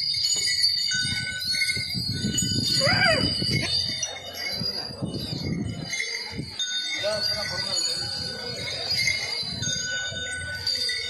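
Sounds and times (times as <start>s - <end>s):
bells jingling: 0.0s - 11.0s.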